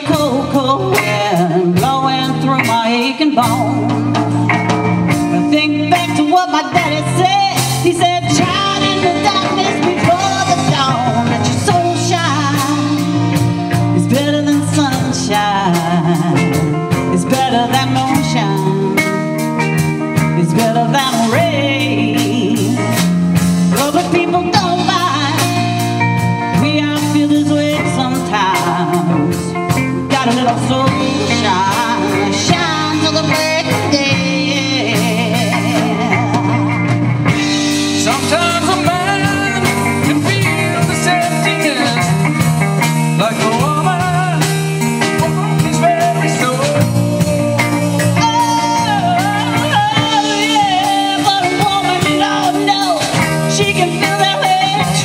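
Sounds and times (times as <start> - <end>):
bass guitar: 0.0 - 55.0
drum kit: 0.0 - 55.0
electric guitar: 0.0 - 55.0
woman singing: 0.0 - 55.0.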